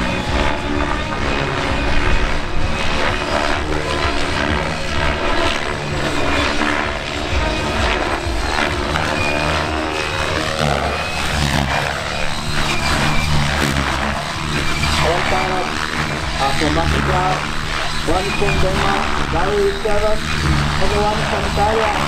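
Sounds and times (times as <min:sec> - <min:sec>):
electric motors whining: 0:00.0 - 0:22.0
model helicopter rotors swishing: 0:00.0 - 0:22.0.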